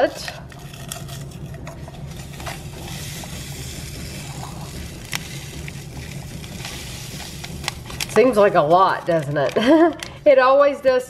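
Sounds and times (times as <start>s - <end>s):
powder pouring into a cup: 0.4s - 10.2s
foil pouch crinkling: 0.5s - 10.2s.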